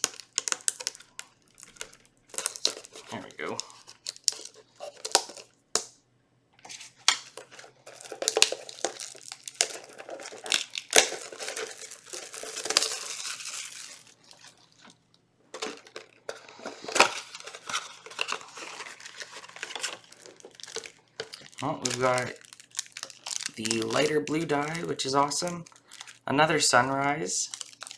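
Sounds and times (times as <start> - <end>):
card packaging crinkling and tearing: 0.0 - 5.9, 6.6 - 27.9.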